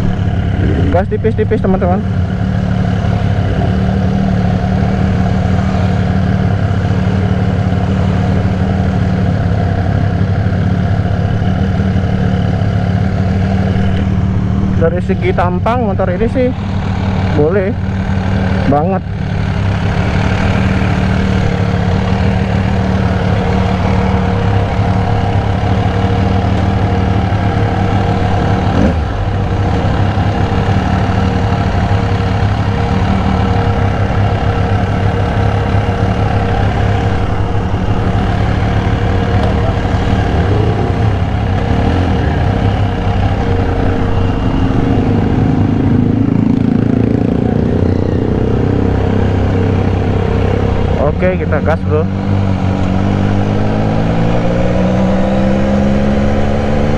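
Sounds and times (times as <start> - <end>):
motorcycle engine idling: 0.0 - 53.3.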